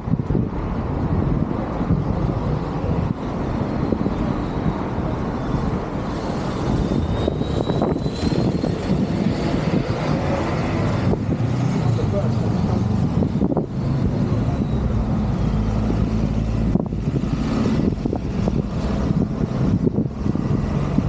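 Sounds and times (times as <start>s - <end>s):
loud engine rumble: 0.0s - 21.0s.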